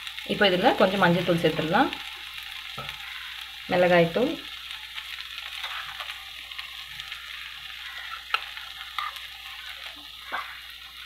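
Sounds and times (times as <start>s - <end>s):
masala sizzling in hot oil: 0.0s - 11.0s.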